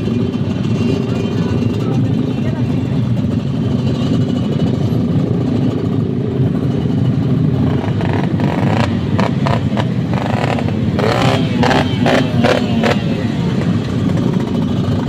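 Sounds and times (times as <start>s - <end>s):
engine exhaust rumbling: 0.0s - 15.0s.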